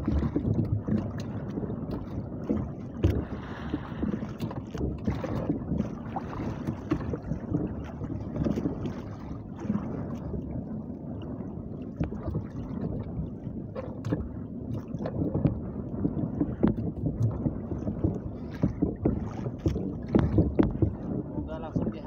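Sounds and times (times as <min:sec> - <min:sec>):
water lapping against hull: 0:00.0 - 0:22.0
wind buffeting microphone: 0:00.0 - 0:22.0.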